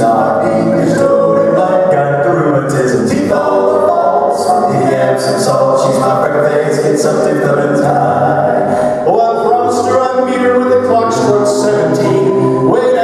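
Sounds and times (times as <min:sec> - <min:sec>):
male vocal quartet singing: 0:00.0 - 0:13.0.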